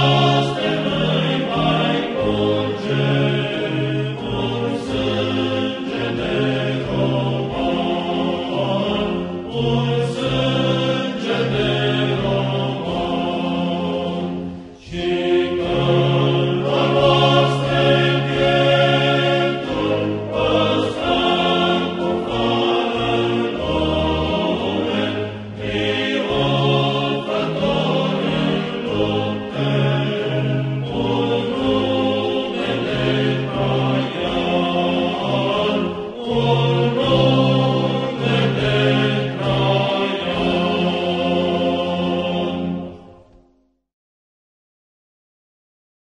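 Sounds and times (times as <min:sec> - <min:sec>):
choir singing sustained chords: 0:00.0 - 0:43.8.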